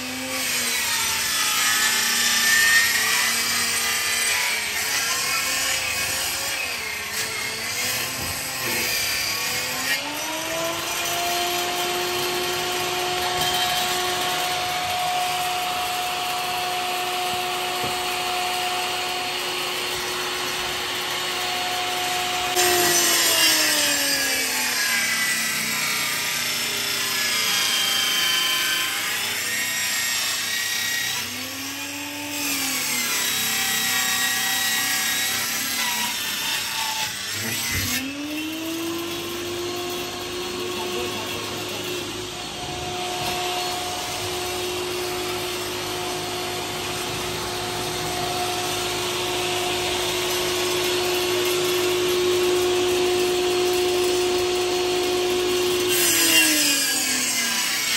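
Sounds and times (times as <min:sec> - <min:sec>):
circular saw cutting wood: 0:00.0 - 0:57.9.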